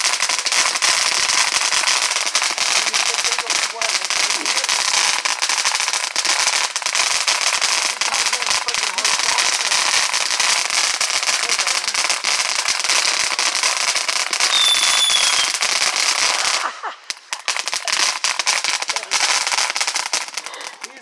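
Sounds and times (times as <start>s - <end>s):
fountain firework hissing and crackling: 0.0s - 21.0s.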